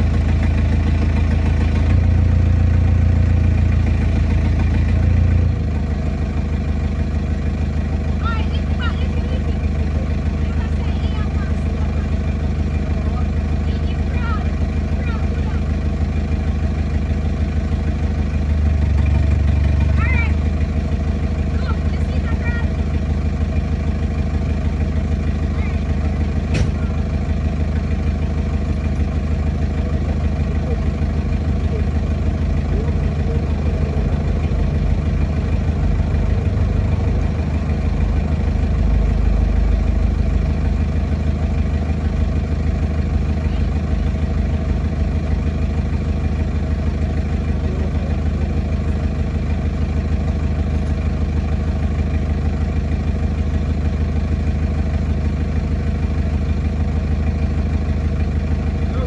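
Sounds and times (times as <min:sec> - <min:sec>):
heavy diesel engine idling: 0:00.0 - 0:59.0.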